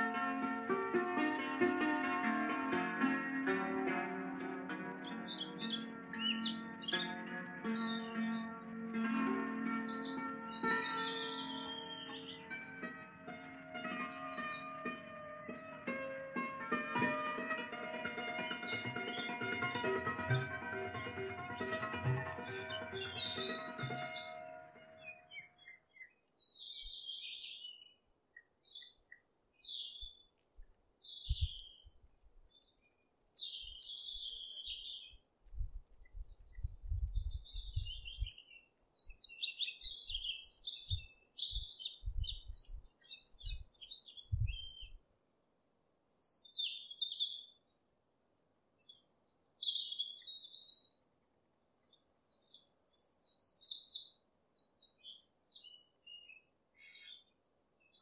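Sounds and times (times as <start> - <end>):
small birds chirping: 4.3 - 15.8, 18.1 - 35.2, 36.0 - 45.0, 45.6 - 48.2, 48.8 - 51.1, 51.8 - 58.0.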